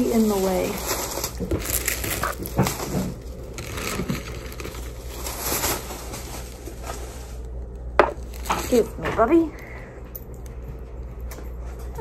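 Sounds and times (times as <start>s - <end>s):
plastic bag rustling: 0.0s - 9.9s.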